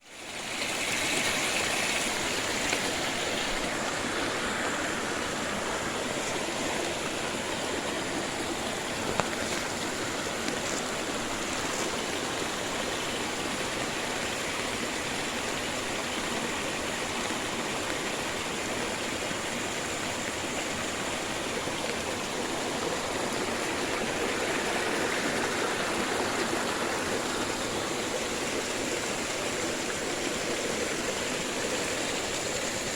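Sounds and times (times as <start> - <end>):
water rushing: 0.0 - 32.9.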